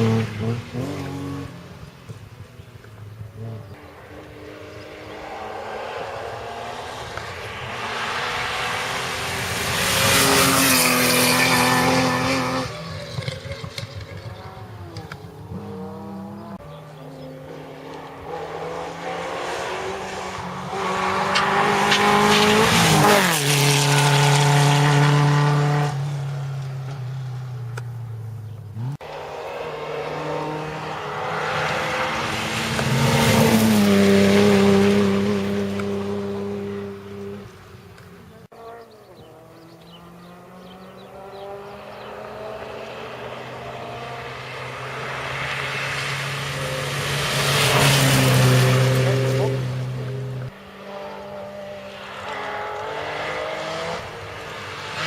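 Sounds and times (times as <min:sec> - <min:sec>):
rally car passing at speed: 0:00.0 - 0:02.4, 0:03.3 - 0:27.6, 0:28.7 - 0:55.0.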